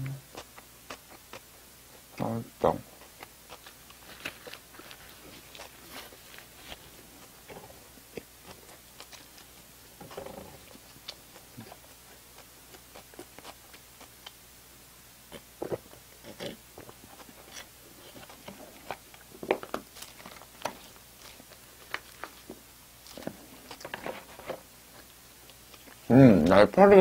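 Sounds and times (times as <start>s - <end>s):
soft chewing with mouth clicks: 0.0s - 14.5s, 15.3s - 26.1s.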